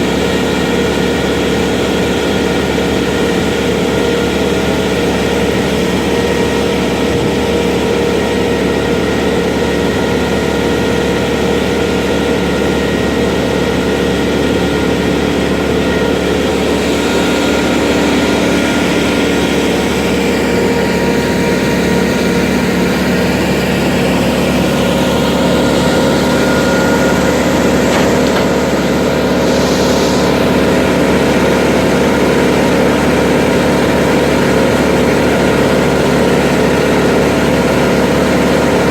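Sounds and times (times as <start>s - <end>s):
heavy machine engine running: 0.0s - 38.9s.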